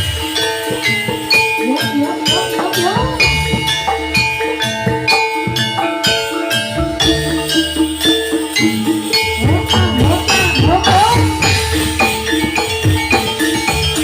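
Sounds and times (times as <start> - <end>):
drums playing: 0.0 - 14.0
metal-keyed percussion: 0.0 - 14.0
wavering melody: 0.0 - 14.0.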